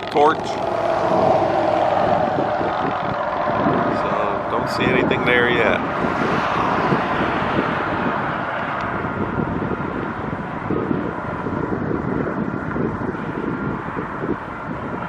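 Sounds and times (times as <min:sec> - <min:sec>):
rushing noise: 0:00.0 - 0:15.0
wind buffeting microphone: 0:00.0 - 0:15.0.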